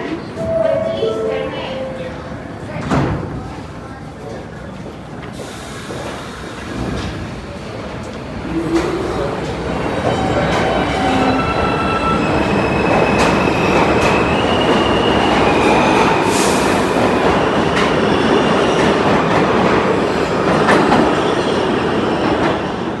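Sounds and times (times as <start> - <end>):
subway train rumbling on rails: 0.0 - 23.0.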